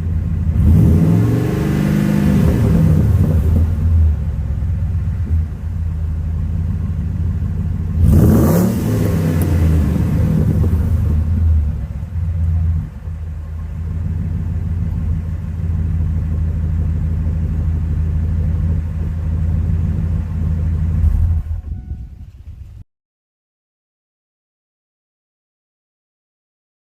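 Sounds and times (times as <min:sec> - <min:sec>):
engine throttle blip: 0:00.0 - 0:22.8
truck engine rumbling at idle: 0:00.0 - 0:22.8.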